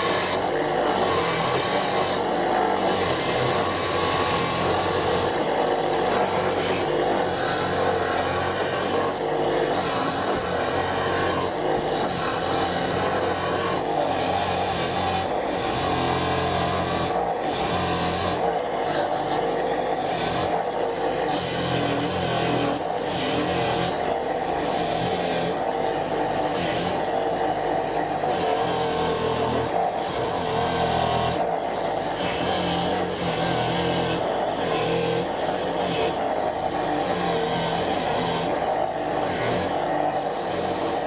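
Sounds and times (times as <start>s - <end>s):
angle grinder grinding: 0.0s - 41.0s.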